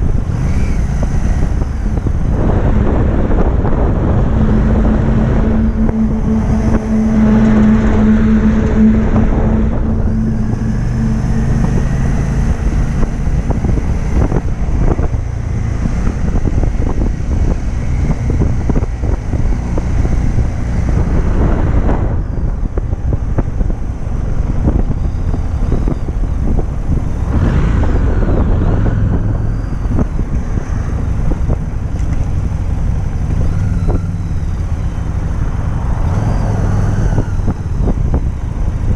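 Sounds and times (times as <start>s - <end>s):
motorcycle engine running: 0.0s - 35.8s
road noise: 0.0s - 38.9s
wind noise: 0.0s - 38.9s.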